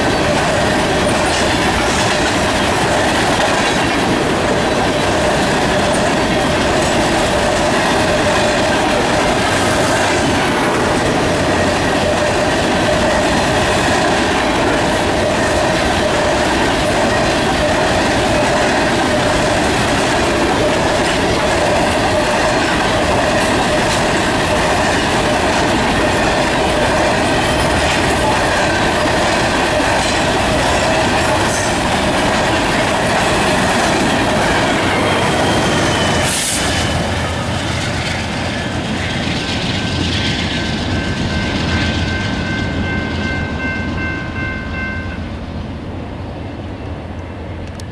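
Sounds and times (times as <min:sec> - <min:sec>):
diesel locomotive rumble: 0:00.0 - 0:44.5, 0:45.2 - 0:47.9
train wheels clattering and squealing: 0:00.0 - 0:44.8.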